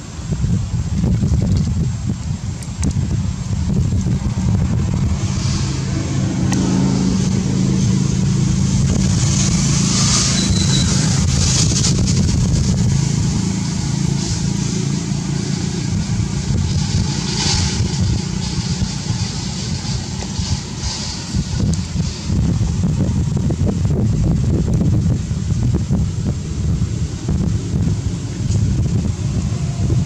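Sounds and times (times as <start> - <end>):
motor engine humming: 0.0 - 30.0.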